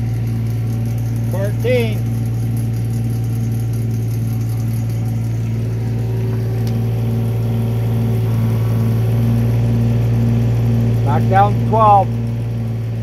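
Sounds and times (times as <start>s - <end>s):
diesel engine running: 0.0s - 13.0s
hydraulic drive hum: 0.0s - 13.0s.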